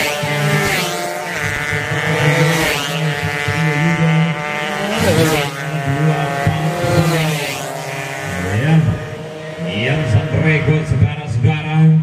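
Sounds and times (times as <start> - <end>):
motorcycles passing at high revs: 0.0 - 12.0.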